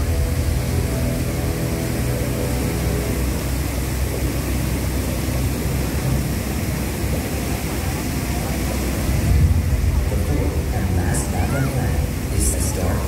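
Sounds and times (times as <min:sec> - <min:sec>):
low rumble: 0:00.0 - 0:13.0
water jets hissing: 0:00.0 - 0:13.0.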